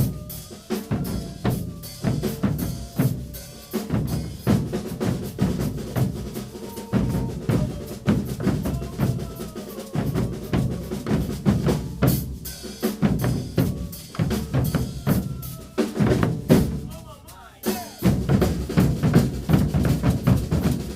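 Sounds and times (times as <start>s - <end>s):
bass drums beating: 0.0s - 20.9s
snare drums beating: 0.0s - 20.9s.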